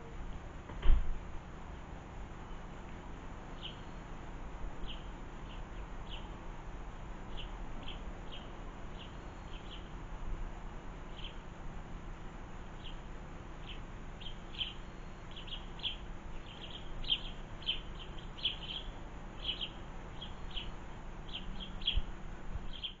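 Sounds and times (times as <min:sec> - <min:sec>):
small birds chirping: 0:02.4 - 0:10.0, 0:10.6 - 0:11.6, 0:12.2 - 0:23.0.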